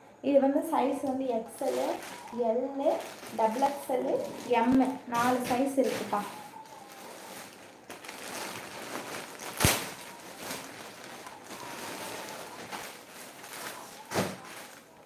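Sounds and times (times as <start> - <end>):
plastic packaging rustling: 0.9 - 15.0.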